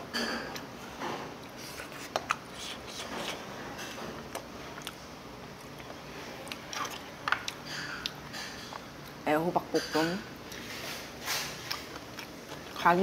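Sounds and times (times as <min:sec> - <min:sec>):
soft chewing: 0:01.4 - 0:09.2, 0:10.4 - 0:13.0.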